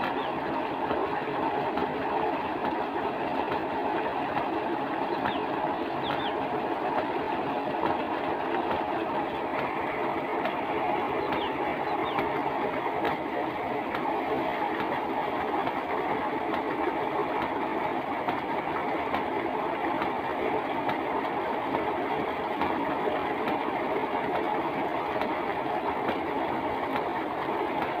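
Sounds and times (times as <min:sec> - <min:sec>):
water pouring into a tank: 0:00.0 - 0:28.0.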